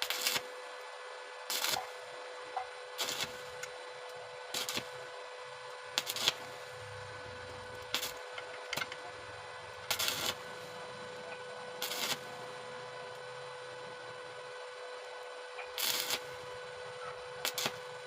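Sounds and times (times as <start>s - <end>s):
welding arc crackle: 0.0s - 0.6s, 1.5s - 2.1s, 2.9s - 18.0s
steady electrical hum: 0.0s - 18.0s.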